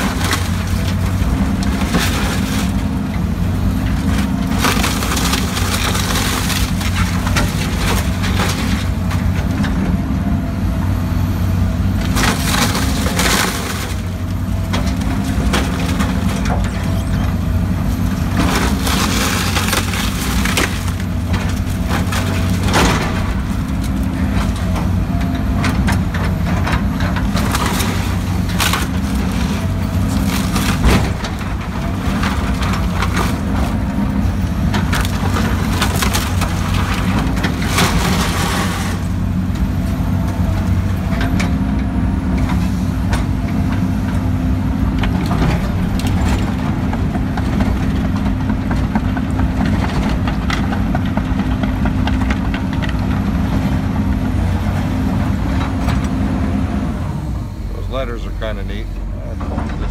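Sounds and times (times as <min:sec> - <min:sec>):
wood cracking and splintering: 0:00.0 - 0:10.1, 0:11.9 - 0:56.4
excavator diesel engine running: 0:00.0 - 0:59.9.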